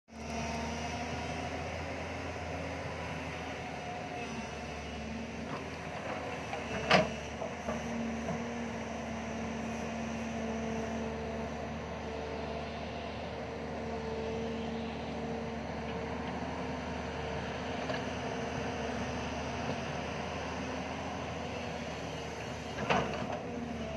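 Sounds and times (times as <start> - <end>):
excavator diesel engine droning: 0.1 - 23.9.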